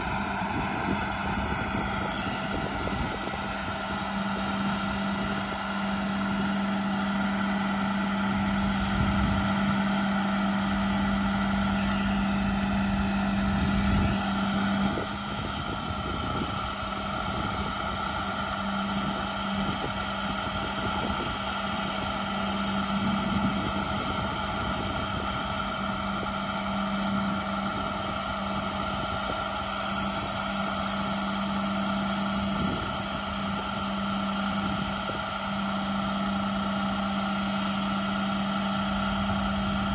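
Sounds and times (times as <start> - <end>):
diesel truck engine humming: 0.0 - 39.9.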